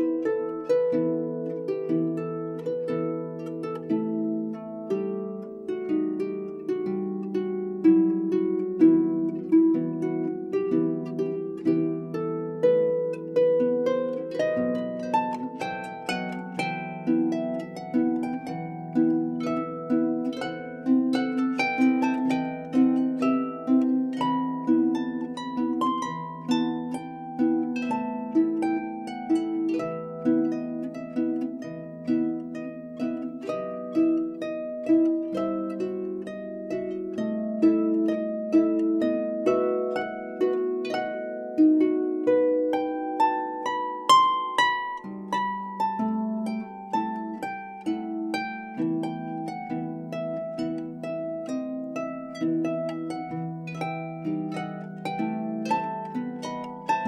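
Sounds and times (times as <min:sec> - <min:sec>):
harp playing melody: 0:00.0 - 0:57.0.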